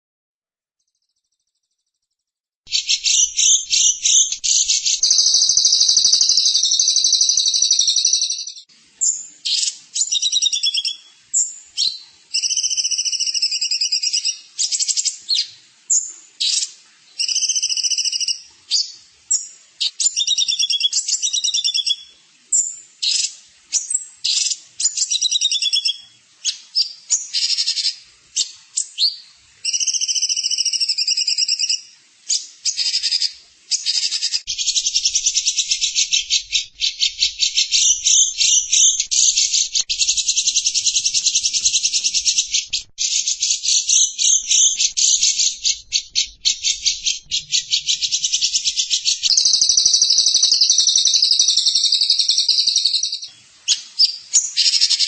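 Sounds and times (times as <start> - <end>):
songbird trilling and twittering: 2.7 - 55.0.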